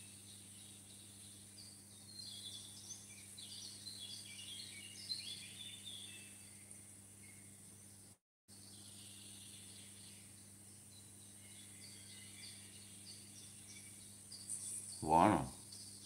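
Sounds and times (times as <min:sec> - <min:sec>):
faint birds chirping: 0:00.0 - 0:16.0
steady low hum and hiss: 0:00.0 - 0:16.0.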